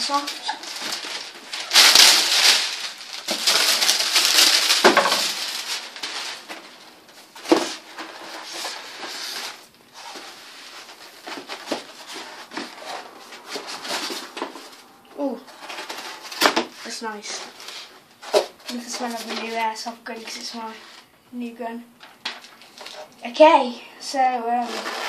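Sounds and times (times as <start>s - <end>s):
plastic packaging rustling: 0.0s - 21.1s, 22.0s - 23.2s, 24.5s - 25.0s.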